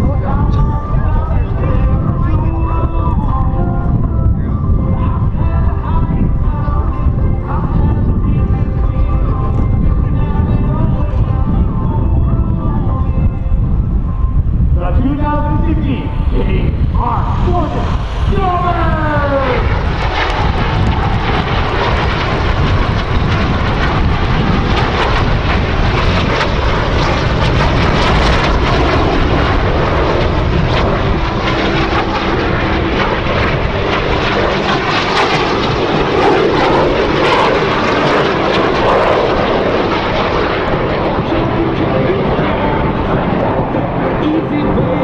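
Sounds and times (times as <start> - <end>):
jet engines rushing: 0.0 - 45.0.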